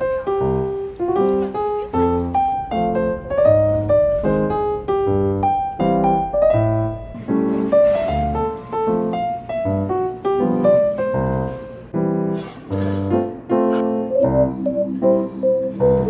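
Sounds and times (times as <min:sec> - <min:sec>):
piano melody with bass notes: 0:00.0 - 0:16.0.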